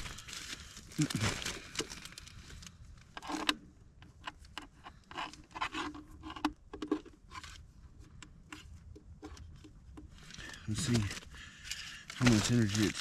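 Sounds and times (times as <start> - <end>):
gear handling clicks and rustles: 0.0 - 13.0.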